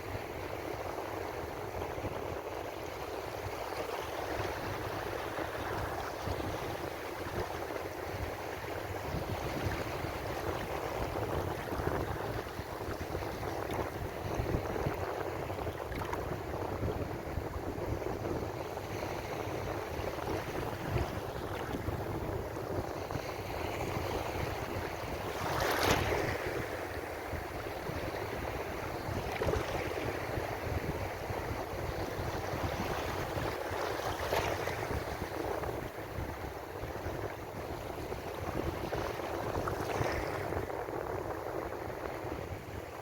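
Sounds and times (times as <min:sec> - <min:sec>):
waves breaking: 0:00.0 - 0:43.0.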